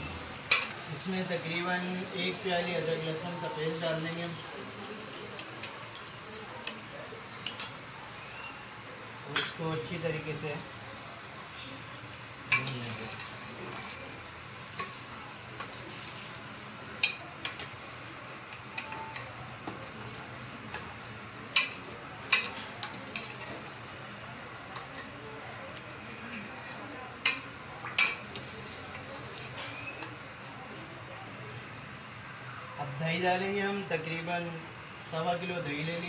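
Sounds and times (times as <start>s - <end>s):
frying sizzle: 0.0s - 36.0s.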